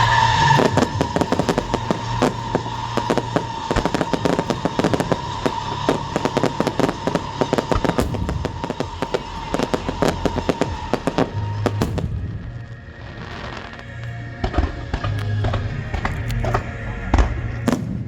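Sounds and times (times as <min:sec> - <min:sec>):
fireworks crackling pops: 0:00.0 - 0:18.0
steady high tone: 0:00.0 - 0:18.0.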